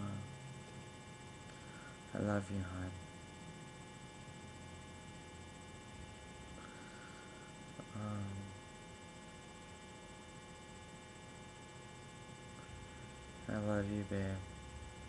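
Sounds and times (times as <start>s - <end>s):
electrical hum and whine: 0.0s - 15.0s.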